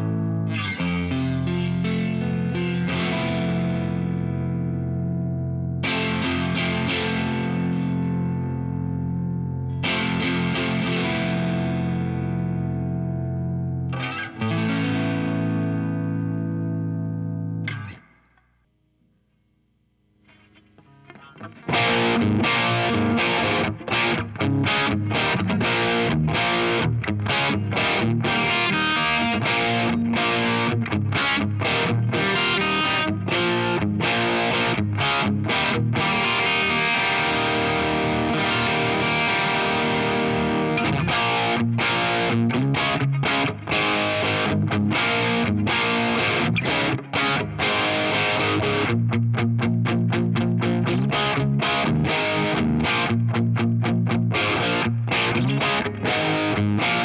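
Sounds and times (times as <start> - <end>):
distorted electric guitar riffing: 0.0 - 18.4, 20.2 - 57.0.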